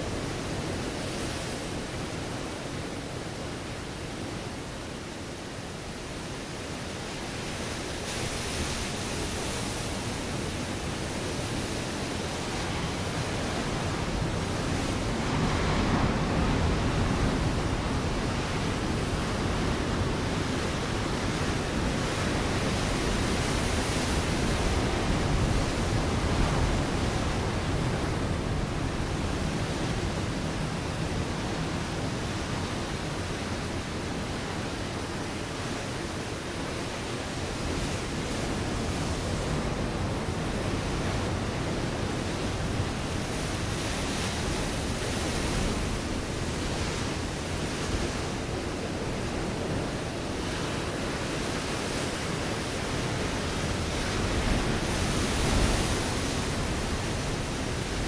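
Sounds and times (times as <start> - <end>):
waves breaking on rocky shore: 0.0 - 58.0.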